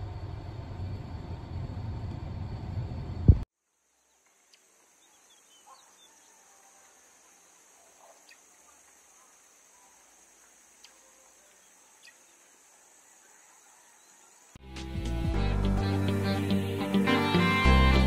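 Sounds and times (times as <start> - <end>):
faint steady hiss: 3.3 - 18.0.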